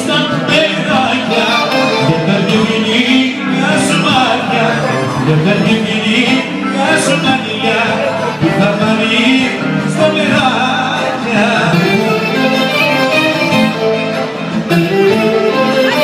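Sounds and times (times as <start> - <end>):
live band playing popular song: 0.0 - 16.0.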